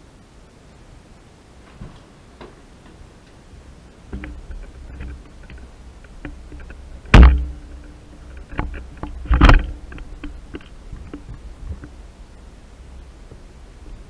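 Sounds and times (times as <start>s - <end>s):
knocks and shuffling: 1.5s - 14.0s.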